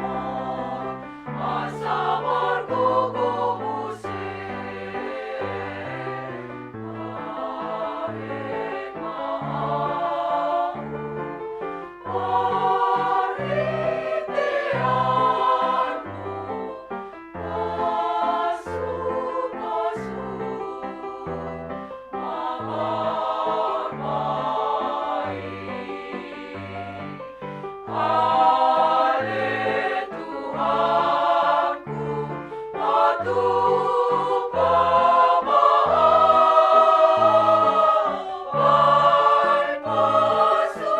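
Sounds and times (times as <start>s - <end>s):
women's choir singing a hymn: 0.0s - 40.9s.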